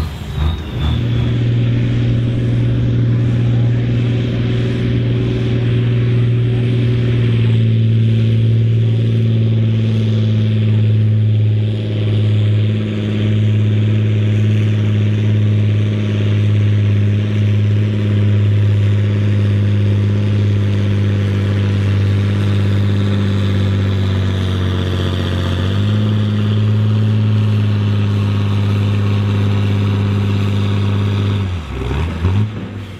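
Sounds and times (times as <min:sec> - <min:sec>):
tractor diesel engine at full load: 0:00.0 - 0:32.9.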